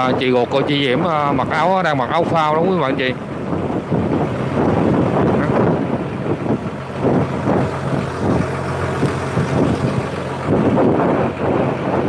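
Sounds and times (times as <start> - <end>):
boat engine running: 0.0 - 12.0
wind on microphone: 0.0 - 12.0.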